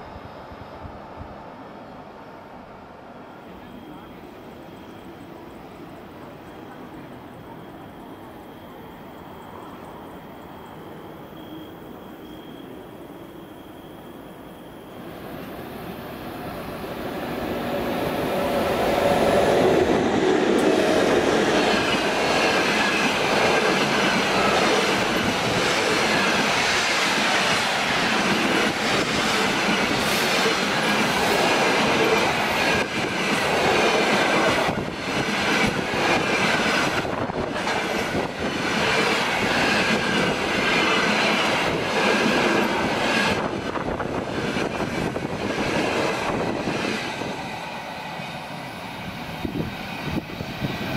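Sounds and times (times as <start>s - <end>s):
electric locomotive passing: 0.0s - 50.9s
train wheels on rails: 3.2s - 50.9s.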